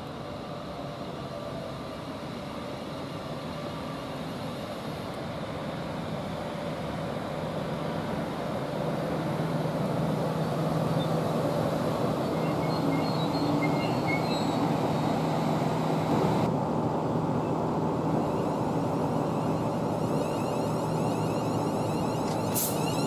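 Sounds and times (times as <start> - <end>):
electric train humming: 0.0 - 23.0.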